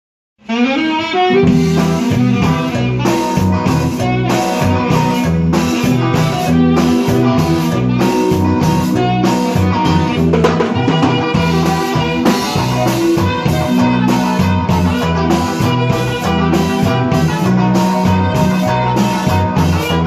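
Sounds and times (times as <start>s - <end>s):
drum kit: 0.4s - 20.0s
guitar playing: 0.4s - 20.0s.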